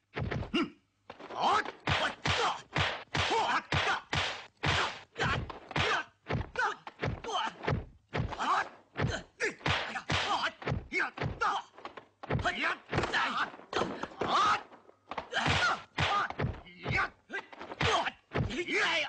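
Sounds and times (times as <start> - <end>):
punch and block impacts: 0.1 - 0.6, 1.6 - 18.9.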